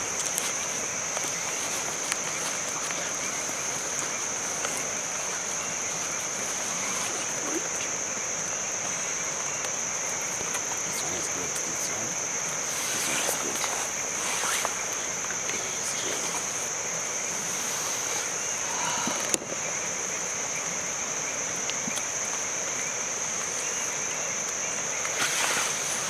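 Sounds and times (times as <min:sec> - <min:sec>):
background hiss: 0:00.0 - 0:26.0
insects trilling: 0:00.0 - 0:26.0.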